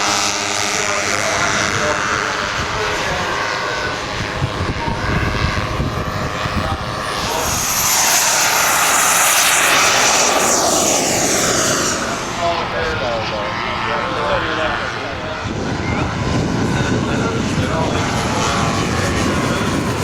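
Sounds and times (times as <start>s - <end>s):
model aircraft engine: 0.0s - 20.0s.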